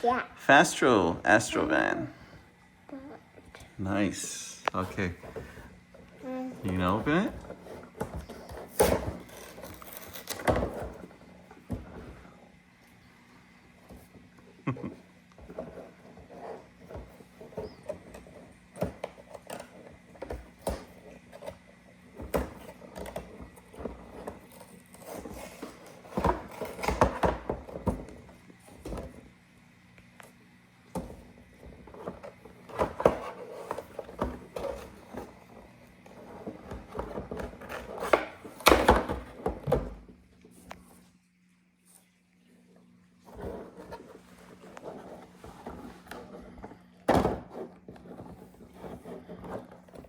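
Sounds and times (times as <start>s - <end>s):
cardboard and plastic rustling: 3.6s - 12.6s, 15.4s - 29.4s, 31.0s - 41.3s, 42.8s - 50.0s.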